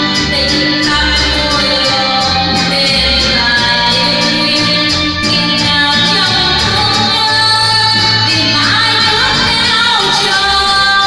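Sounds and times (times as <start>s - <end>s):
instrumental backing music: 0.0s - 11.0s
woman singing into a microphone: 0.0s - 11.0s.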